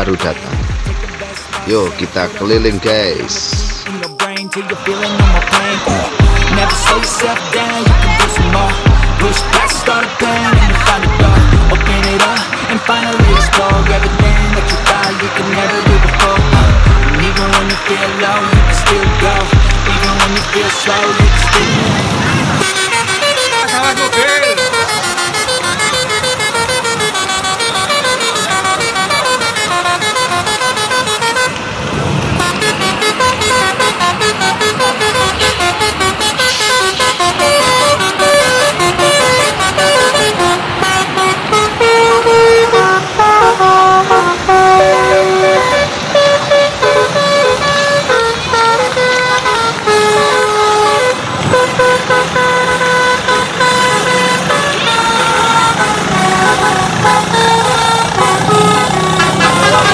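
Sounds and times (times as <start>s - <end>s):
bus engine running: 4.8s - 59.9s
multi-tone bus horn tune: 4.9s - 59.9s.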